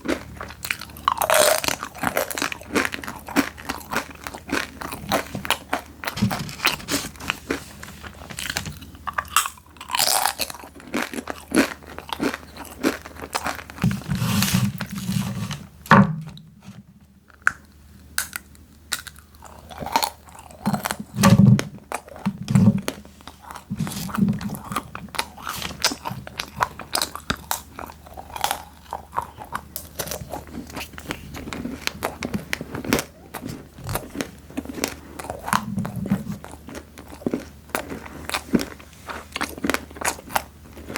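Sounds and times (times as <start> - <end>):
crunching crisp snacks: 0.0 - 15.6, 17.3 - 40.9.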